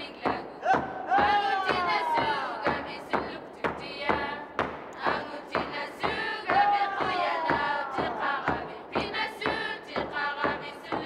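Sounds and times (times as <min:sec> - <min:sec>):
voices chanting rhythmically: 0:00.0 - 0:11.0.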